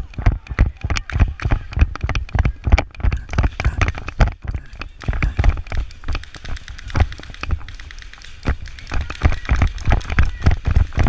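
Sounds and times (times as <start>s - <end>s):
running footsteps: 0.0s - 11.0s.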